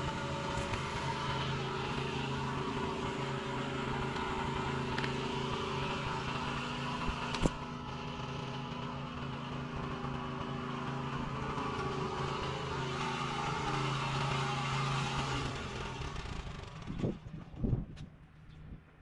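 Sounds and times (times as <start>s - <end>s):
machine hum: 0.0s - 17.2s.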